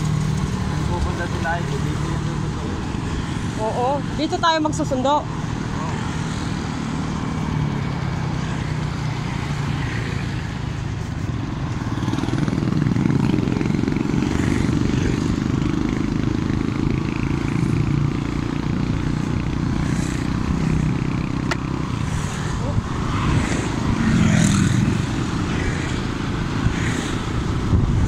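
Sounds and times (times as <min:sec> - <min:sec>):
motorcycle engine hum: 0:00.0 - 0:28.0
road noise: 0:00.0 - 0:28.0.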